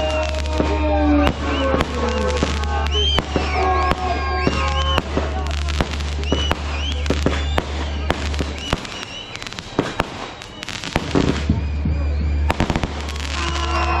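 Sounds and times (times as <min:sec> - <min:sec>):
fireworks bangs and crackles: 0:00.0 - 0:14.0
fireworks whistling: 0:00.0 - 0:14.0.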